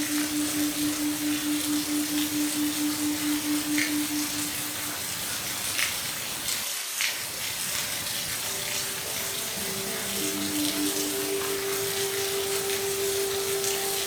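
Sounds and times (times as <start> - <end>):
low pulsing tone: 0.0 - 6.5, 8.5 - 14.0
soft held music notes: 0.0 - 6.6, 7.7 - 14.0
rain falling steadily: 0.0 - 14.0.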